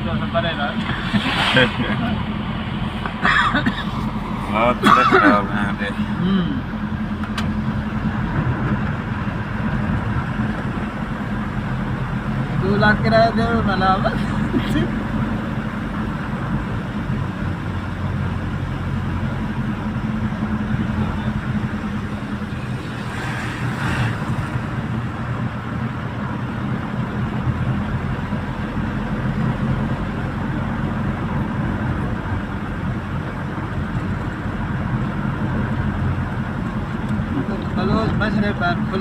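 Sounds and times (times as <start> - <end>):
road noise: 0.0 - 39.0
truck engine running: 0.0 - 39.0.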